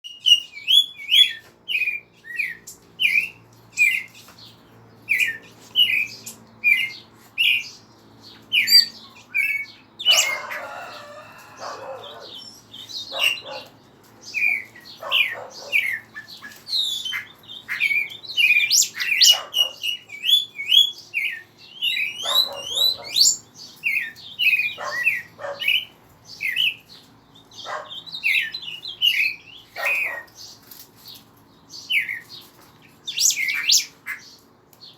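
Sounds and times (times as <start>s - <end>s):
pet birds chirping and singing: 0.0s - 34.9s.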